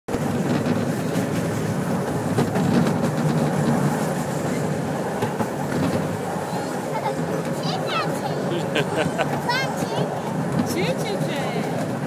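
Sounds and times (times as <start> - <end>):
train rumble inside carriage: 0.1 - 12.0
wheels clicking on track: 0.1 - 12.0.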